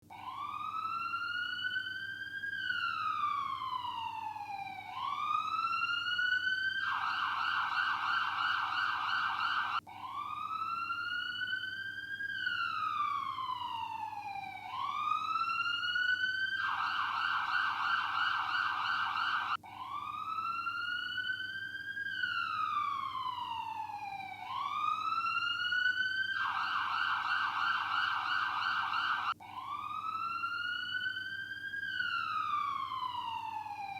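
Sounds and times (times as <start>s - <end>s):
ambulance siren wailing and warbling: 0.1s - 33.9s.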